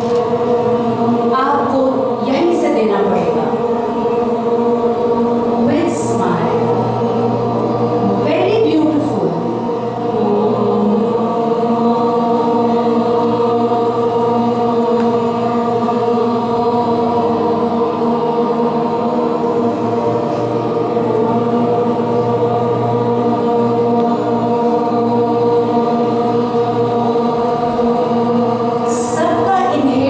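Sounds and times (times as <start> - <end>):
group chanting held tone: 0.0 - 30.0.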